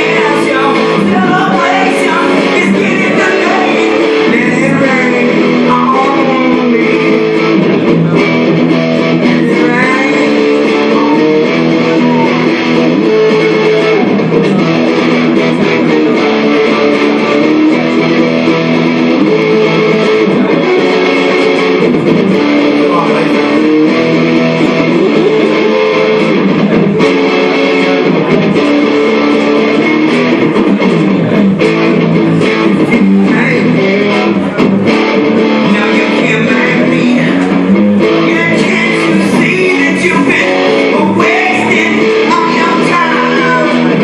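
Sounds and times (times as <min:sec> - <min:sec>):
guitar music with strumming: 0:00.0 - 0:44.0.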